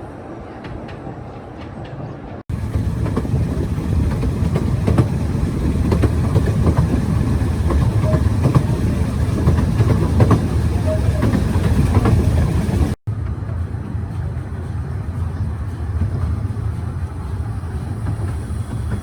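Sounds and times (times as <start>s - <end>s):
train rumbling along track: 0.0s - 19.0s
train wheels clicking: 1.6s - 19.0s.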